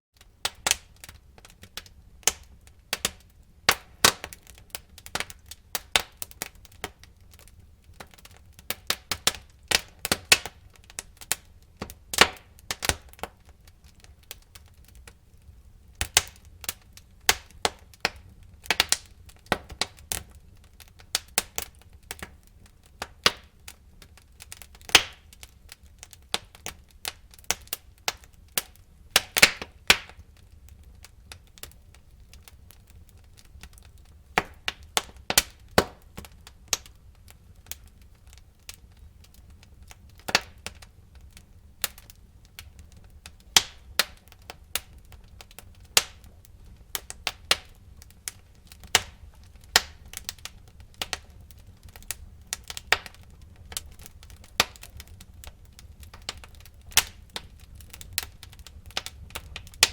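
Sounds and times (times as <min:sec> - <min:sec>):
wood fire crackling and popping: 0:00.2 - 0:59.9.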